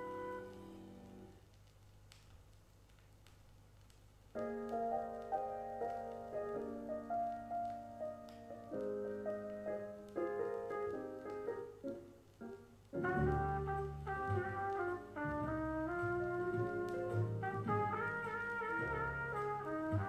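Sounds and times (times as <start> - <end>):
jazz piano chords from vinyl: 0.0 - 1.5, 4.3 - 20.0.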